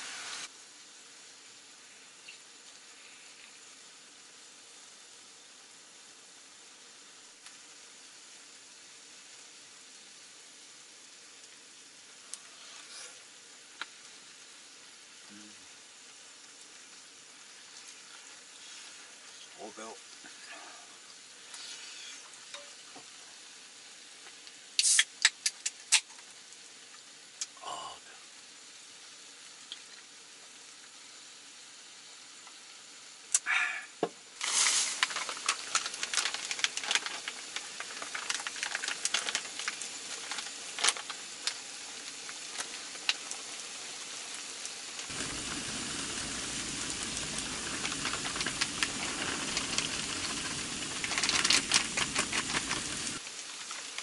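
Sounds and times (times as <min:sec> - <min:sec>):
food sizzling in a skillet: 0:00.0 - 0:54.0.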